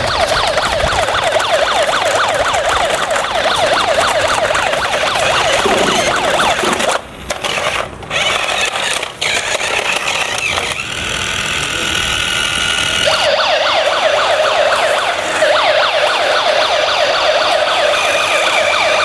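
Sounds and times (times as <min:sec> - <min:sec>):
police siren yelping: 0:00.0 - 0:10.7, 0:12.8 - 0:19.0.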